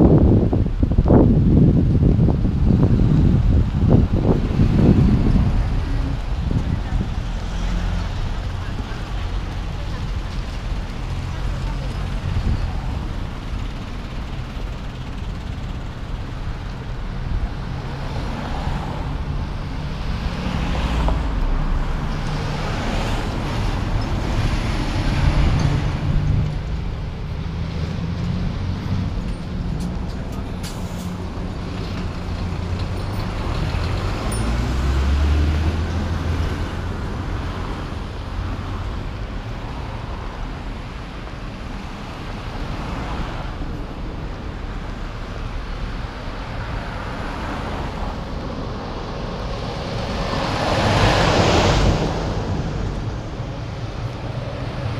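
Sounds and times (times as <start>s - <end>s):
bus driving past: 0.0s - 54.9s
cars driving past: 0.0s - 54.9s.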